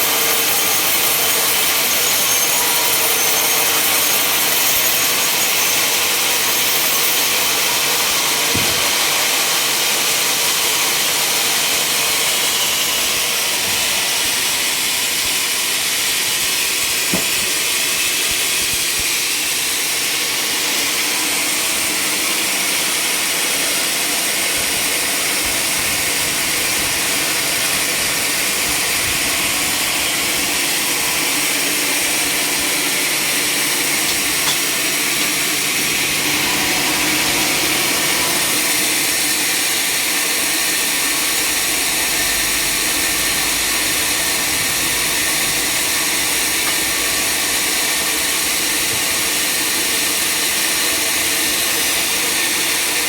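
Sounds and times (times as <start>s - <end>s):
sawmill machinery hissing: 0.0s - 53.0s.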